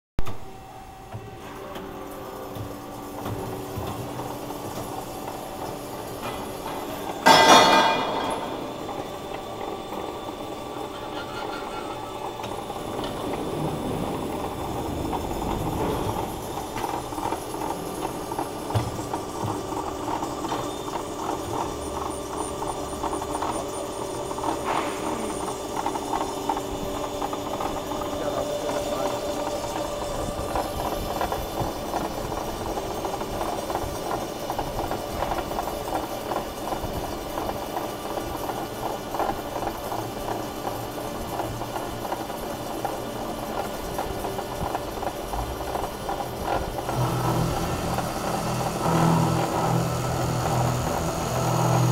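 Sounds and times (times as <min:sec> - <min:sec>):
circular sawing machine running: 0:00.4 - 0:51.9
fast mechanical rattle: 0:02.2 - 0:51.9.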